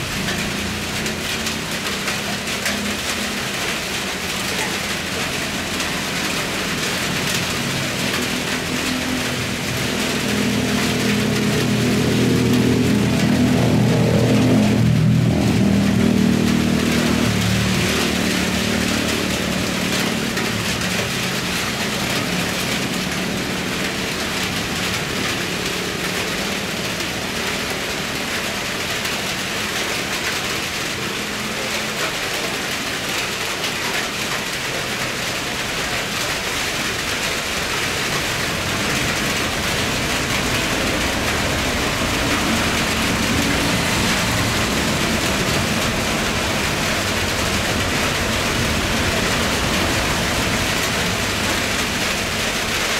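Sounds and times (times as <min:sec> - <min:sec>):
rain hiss: 0:00.0 - 0:52.9.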